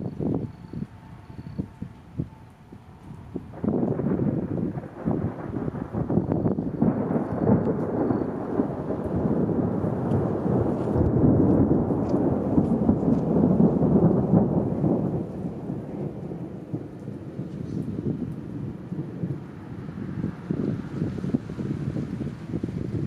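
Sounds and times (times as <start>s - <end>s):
rolling thunder: 0.0s - 23.0s
steady rain: 0.0s - 23.0s.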